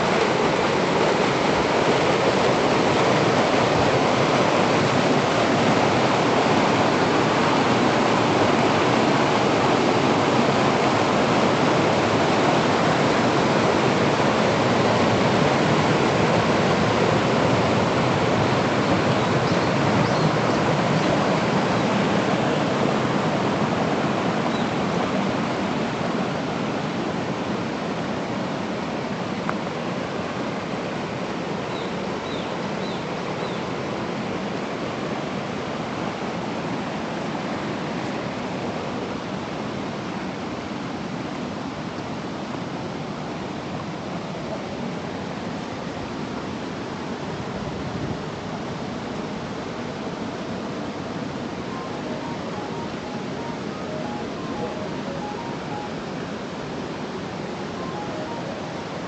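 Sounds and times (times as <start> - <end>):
waterfall rushing over rock: 0.0 - 59.0.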